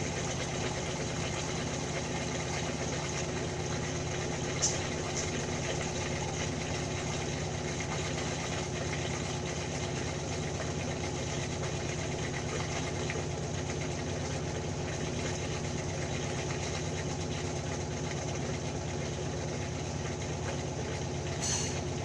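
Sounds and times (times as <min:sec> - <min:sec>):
washing machine rumbling: 0:00.0 - 0:22.0.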